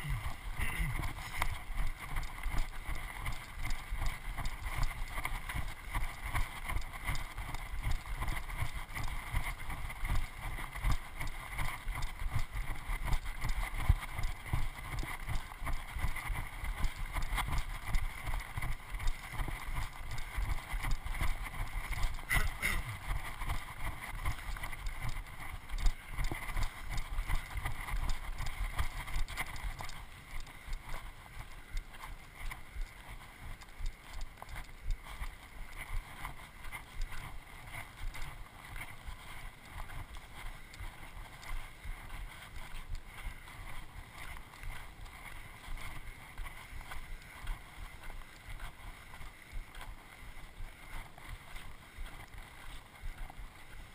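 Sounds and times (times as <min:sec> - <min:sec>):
footsteps on stony dirt trail: 0:00.0 - 0:53.9.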